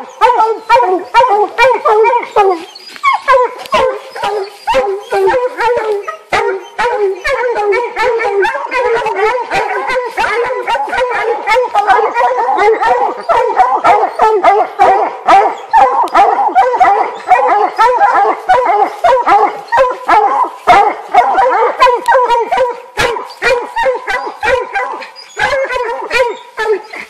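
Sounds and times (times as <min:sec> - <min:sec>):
hounds barking and baying: 0:00.0 - 0:27.0.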